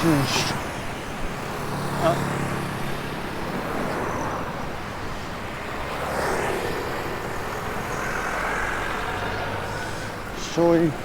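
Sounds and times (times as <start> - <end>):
traffic rushing past: 0.0 - 11.0.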